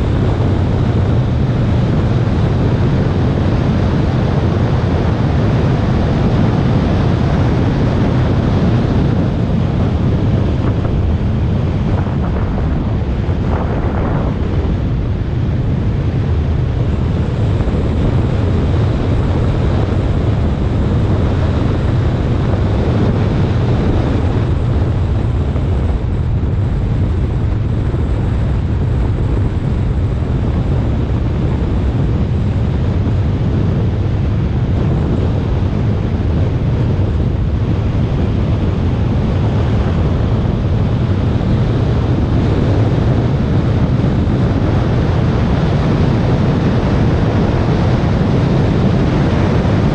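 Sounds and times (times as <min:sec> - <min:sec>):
car road and tyre noise: 0:00.0 - 0:49.9
wind buffeting camera: 0:00.0 - 0:49.9.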